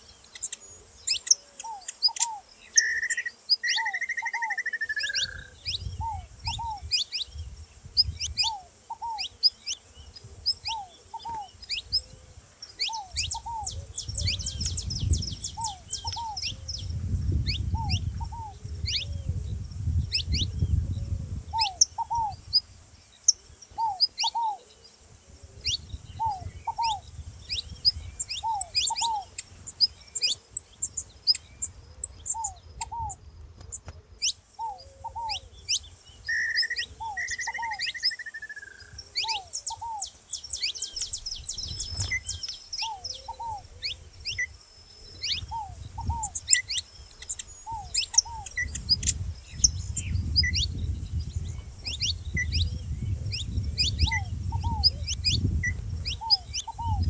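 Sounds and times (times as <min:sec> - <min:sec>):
dove low paired call: 0:00.0 - 0:57.0
finches chirping: 0:00.0 - 0:57.0.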